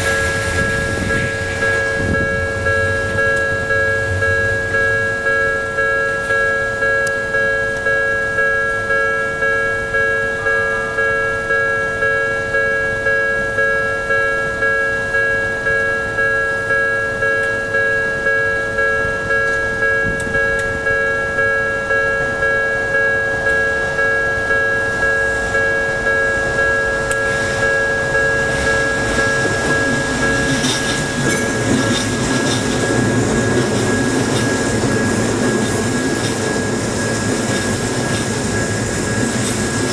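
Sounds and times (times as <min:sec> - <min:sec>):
level-crossing alarm ringing: 0:00.0 - 0:39.9
train rumbling past: 0:00.0 - 0:39.9.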